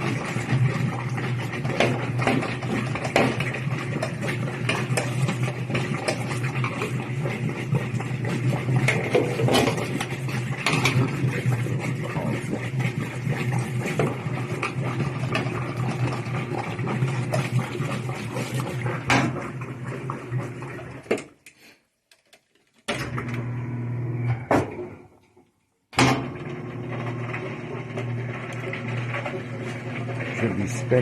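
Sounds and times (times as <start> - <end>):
washing machine motor hum: 0.0 - 21.1, 22.9 - 25.2, 26.0 - 31.0.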